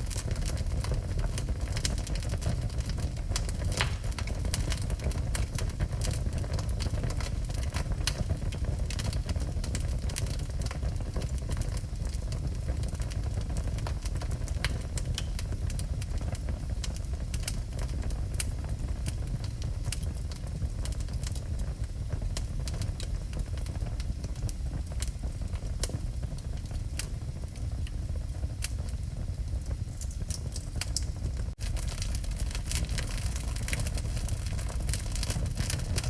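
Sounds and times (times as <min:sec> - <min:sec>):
fire crackling and popping: 0:00.0 - 0:36.0
fire rumbling: 0:00.0 - 0:36.0.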